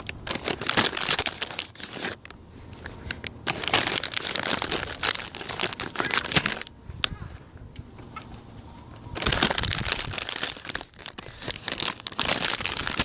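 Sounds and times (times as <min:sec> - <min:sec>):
plastic snack bag crinkling: 0:00.0 - 0:06.7, 0:09.0 - 0:13.0.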